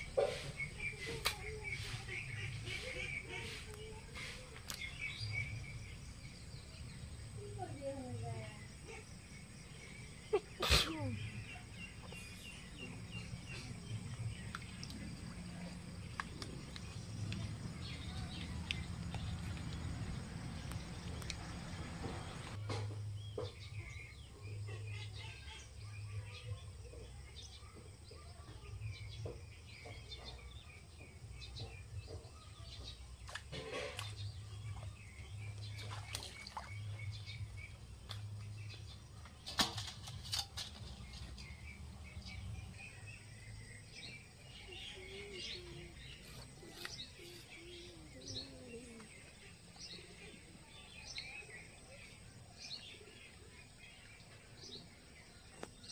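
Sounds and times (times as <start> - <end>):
birds chirping and twittering: 0.0 - 55.9.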